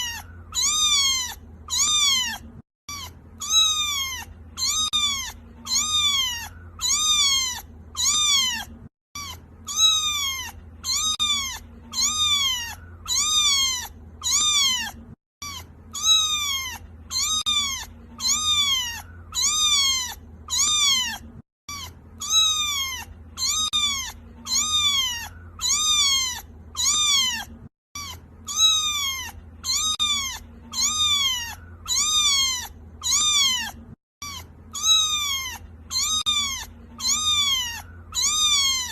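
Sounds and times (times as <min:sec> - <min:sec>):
kitten meowing: 0:00.0 - 0:38.9.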